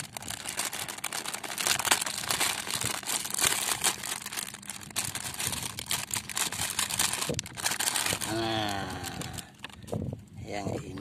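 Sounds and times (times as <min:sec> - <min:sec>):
packaging crinkling and tearing: 0:00.0 - 0:09.8.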